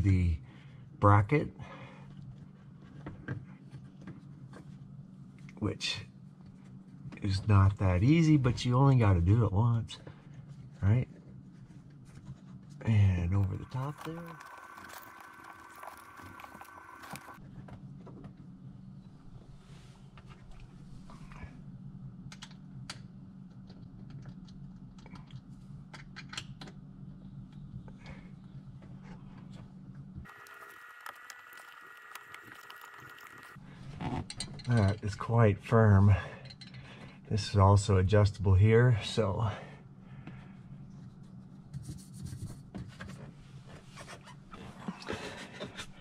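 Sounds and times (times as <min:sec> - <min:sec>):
steady low hum: 0:00.0 - 0:42.1.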